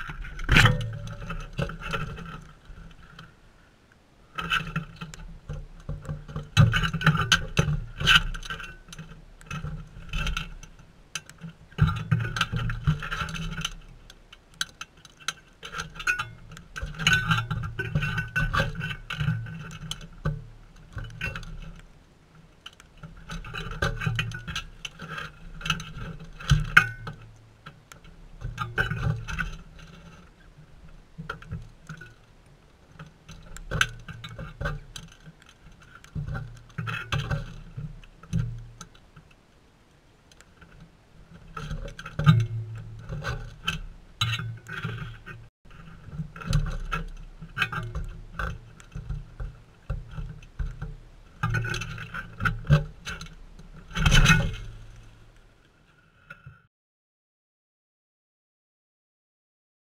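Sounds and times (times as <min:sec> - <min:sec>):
bird feet on metal rim: 0:00.0 - 0:03.3, 0:04.4 - 0:21.9, 0:22.6 - 0:32.3, 0:32.9 - 0:39.3, 0:40.3 - 0:55.4.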